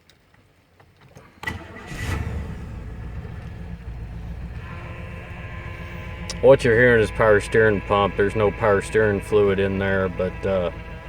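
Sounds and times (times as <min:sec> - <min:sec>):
engine cranking and idling: 0:01.2 - 0:11.0.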